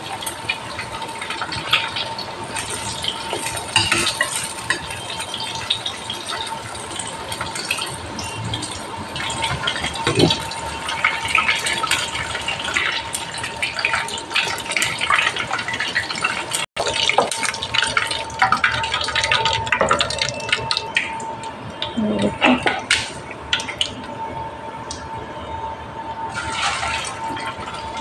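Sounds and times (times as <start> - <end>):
chicken deep-frying in oil: 0.0 - 25.2, 26.2 - 28.0.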